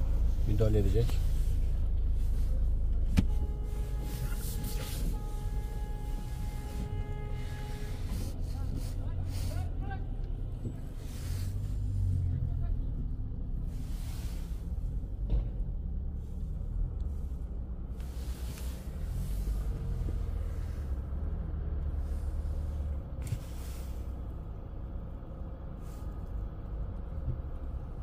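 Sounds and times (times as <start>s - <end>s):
fire engine rumbling: 0.0s - 28.0s.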